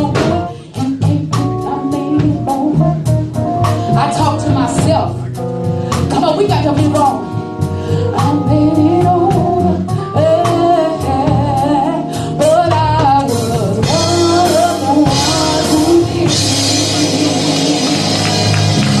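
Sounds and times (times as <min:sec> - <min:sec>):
woman singing: 0:00.0 - 0:05.2, 0:06.0 - 0:07.3, 0:07.9 - 0:19.0
drums and cymbals: 0:00.0 - 0:19.0
gospel band playing: 0:00.0 - 0:19.0.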